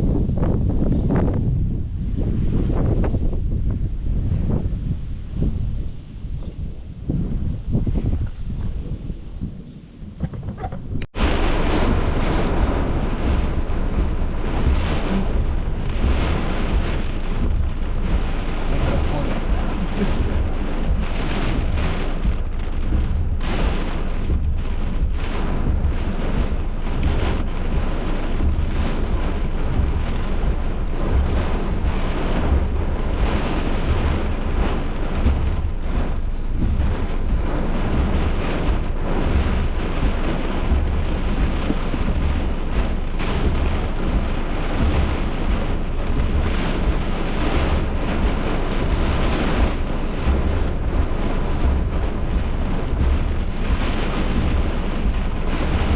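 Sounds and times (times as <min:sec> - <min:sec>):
heavy rain: 0:00.0 - 0:55.9
low rumble: 0:00.0 - 0:55.9
wind: 0:00.0 - 0:55.9.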